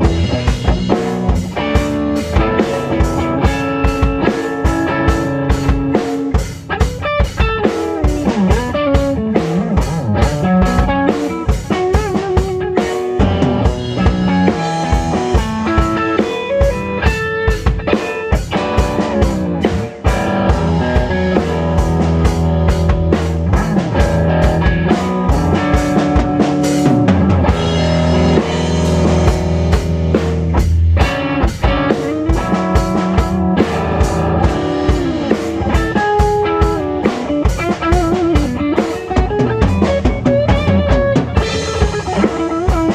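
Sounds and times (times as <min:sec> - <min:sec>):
low bass notes: 0:00.0 - 0:06.0, 0:08.3 - 0:11.1, 0:13.1 - 0:15.8, 0:18.6 - 0:36.6, 0:37.4 - 0:42.9
drum kit beat: 0:00.0 - 0:42.9
electric guitar: 0:00.0 - 0:42.9.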